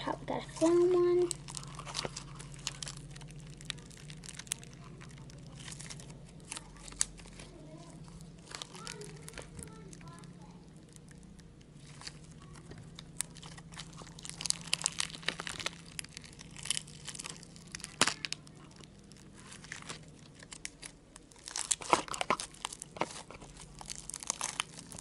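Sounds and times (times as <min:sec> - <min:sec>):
foam slime squished by hand: 0:00.0 - 0:25.0.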